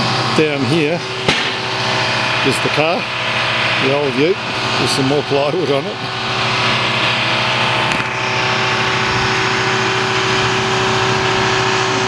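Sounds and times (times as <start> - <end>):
machine motor drone: 0.0 - 12.0.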